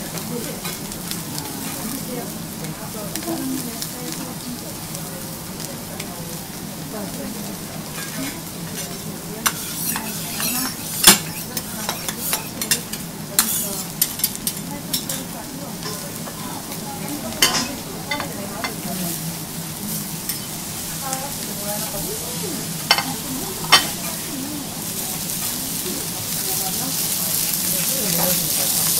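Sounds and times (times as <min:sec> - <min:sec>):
steaks sizzling on griddle: 0:00.0 - 0:28.9.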